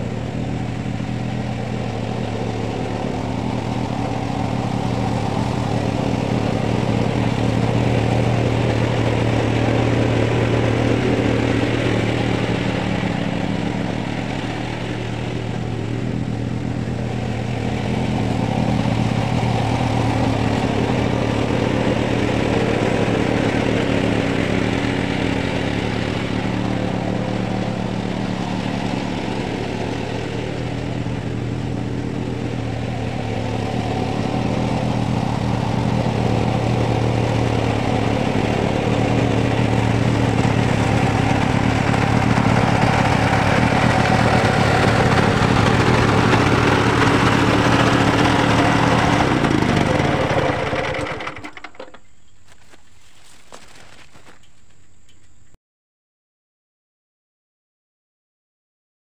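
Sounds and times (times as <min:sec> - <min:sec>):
flail rotor mulching brush: 0:00.0 - 0:55.5
mower engine running: 0:00.0 - 0:55.5.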